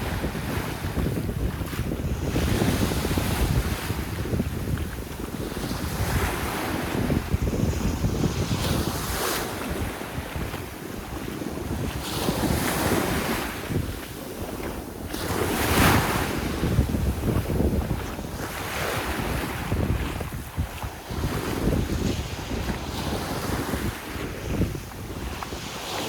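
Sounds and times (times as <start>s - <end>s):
waves breaking on beach: 0.0s - 26.0s
wind buffeting microphone: 0.0s - 26.0s.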